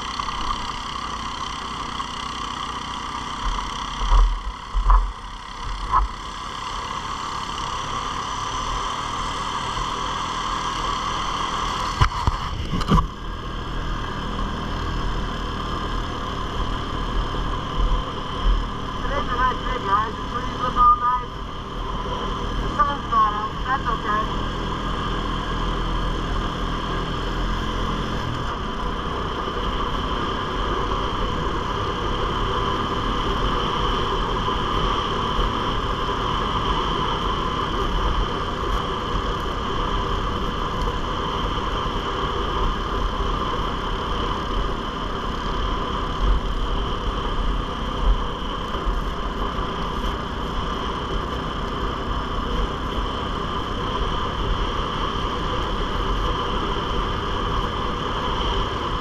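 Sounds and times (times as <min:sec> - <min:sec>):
atv engine rumble: 0:00.0 - 0:59.0
high-pitched drivetrain whine: 0:00.0 - 0:59.0.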